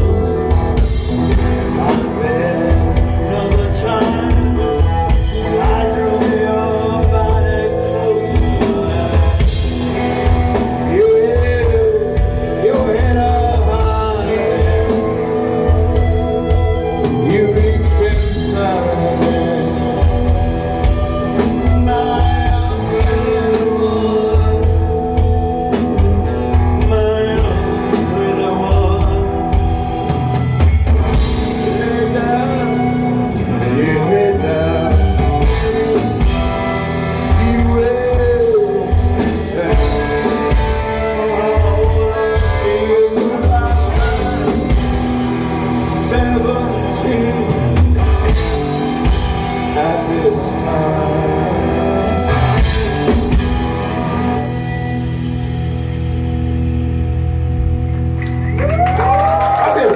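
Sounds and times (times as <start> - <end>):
person singing: 0.0 - 54.7
drum kit: 0.0 - 59.9
guitars: 0.0 - 59.9.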